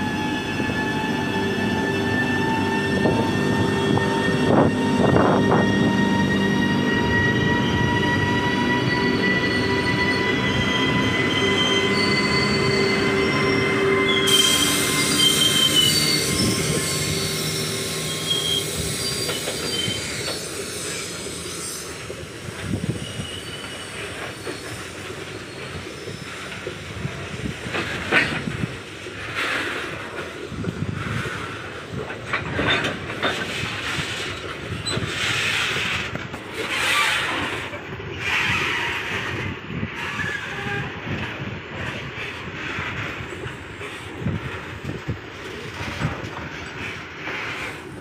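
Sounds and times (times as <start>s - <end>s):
wheels squealing on rails: 0.0s - 48.0s.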